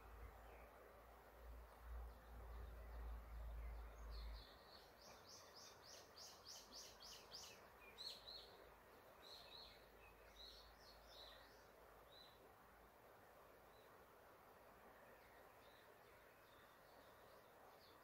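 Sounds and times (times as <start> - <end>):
songbird singing and chirping: 0.0 - 18.0.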